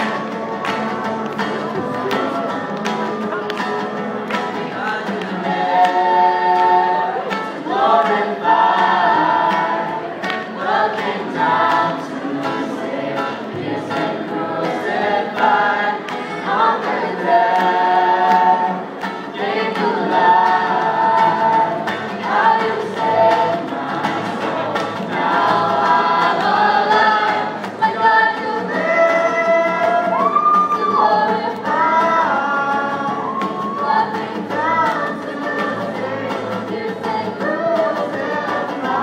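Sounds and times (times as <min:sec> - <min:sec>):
voices singing together: 0:00.0 - 0:39.0.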